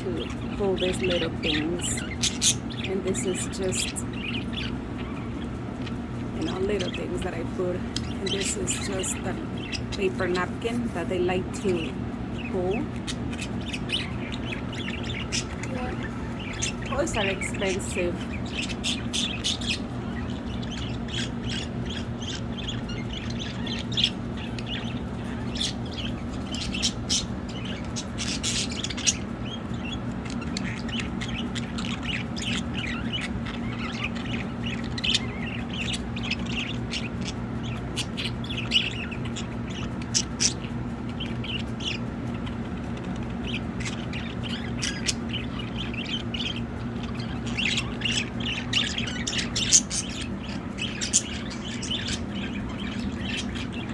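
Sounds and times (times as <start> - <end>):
budgerigars chirping: 0.0 - 53.9
steady low hum: 0.0 - 53.9.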